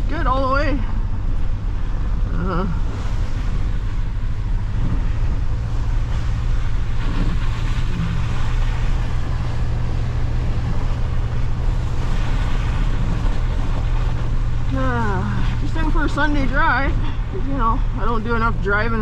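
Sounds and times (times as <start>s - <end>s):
truck engine drone: 0.0s - 19.0s
tyre and road noise: 0.0s - 19.0s.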